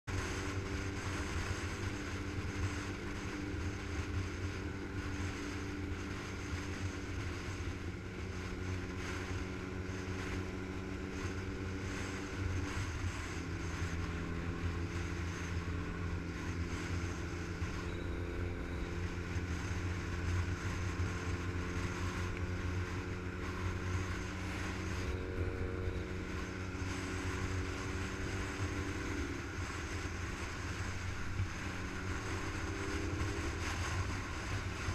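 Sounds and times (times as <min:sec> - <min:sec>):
motorcycle engine running: 0:00.0 - 0:34.9
wind rushing over microphone: 0:00.1 - 0:34.9.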